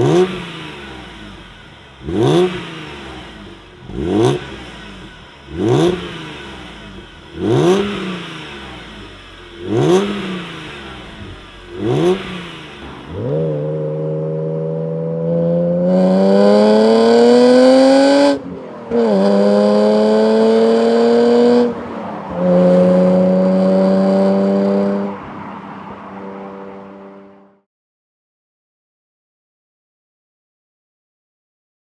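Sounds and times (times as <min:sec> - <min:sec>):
car engine revving: 0:00.0 - 0:27.6.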